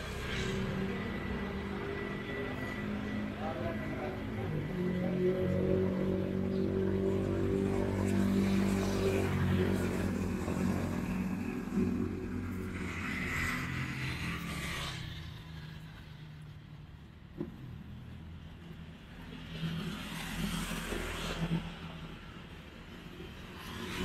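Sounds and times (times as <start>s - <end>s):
vehicle engine humming: 0.0s - 19.9s
passing traffic rushing: 0.0s - 24.0s.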